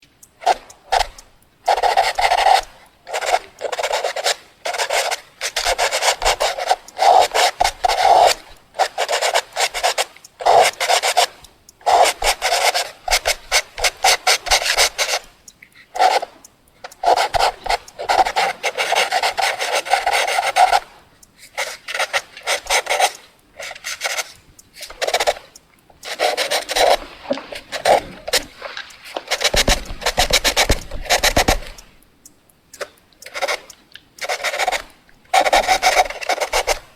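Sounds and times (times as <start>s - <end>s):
pencil writing on paper: 0.4s - 32.1s, 32.8s - 36.9s.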